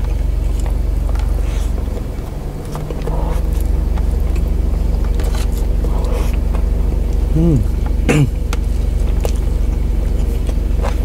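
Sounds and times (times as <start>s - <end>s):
car engine idling: 0.0s - 11.0s
wet chewing: 0.0s - 11.0s.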